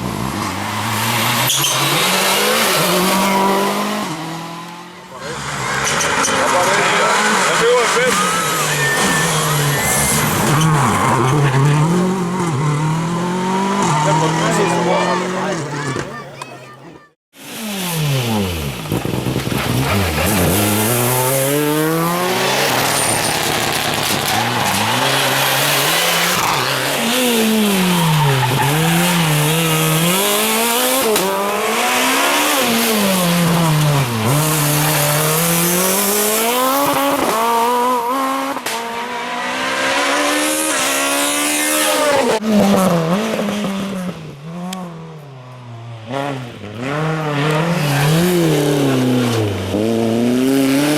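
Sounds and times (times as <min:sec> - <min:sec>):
rally car engines revving: 0:00.0 - 0:16.8, 0:17.4 - 0:50.9.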